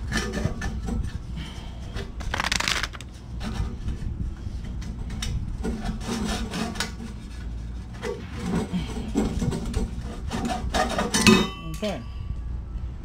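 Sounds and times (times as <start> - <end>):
rusty exhaust pipe scraping: 0.0 - 11.6.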